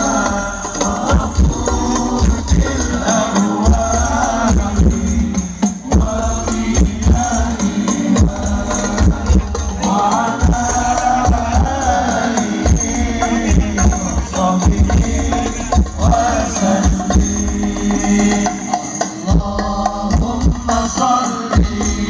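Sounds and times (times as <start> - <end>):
people singing: 0.0 - 22.0.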